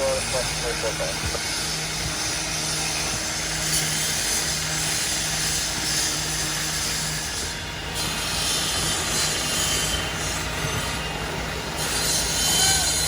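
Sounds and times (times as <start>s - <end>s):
engine and machinery noise: 0.0s - 13.0s
pulsing low hum: 0.0s - 13.0s.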